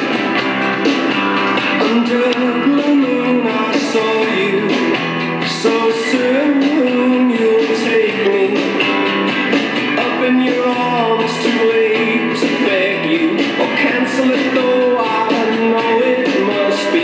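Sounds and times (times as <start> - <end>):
drums: 0.0 - 17.0
electric guitar: 0.0 - 17.0
person singing: 1.6 - 9.0, 9.8 - 17.0.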